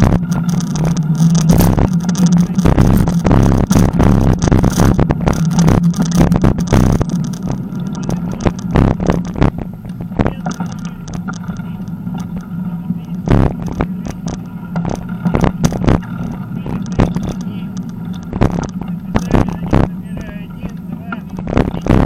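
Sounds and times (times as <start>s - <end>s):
bicycle knocking and rattling: 0.0s - 22.0s
bicycle tyres humming on asphalt: 0.0s - 22.0s.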